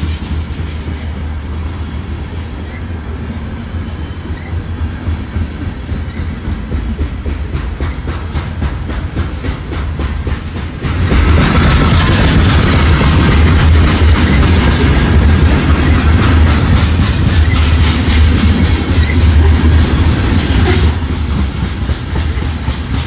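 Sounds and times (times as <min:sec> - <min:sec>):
freight train rumbling past: 0:00.0 - 0:23.0
wheels clacking over rail joints: 0:04.3 - 0:23.0.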